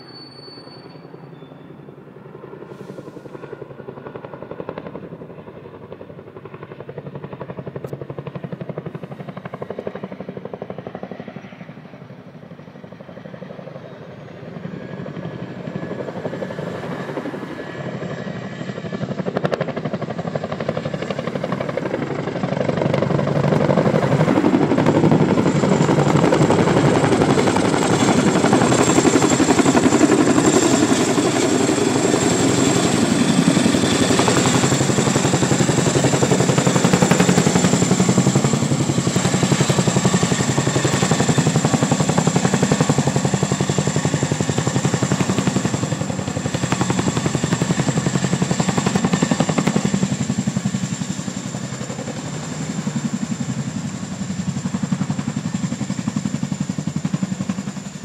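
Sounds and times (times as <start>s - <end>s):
helicopter rotor beat and turbines: 0.0s - 58.0s.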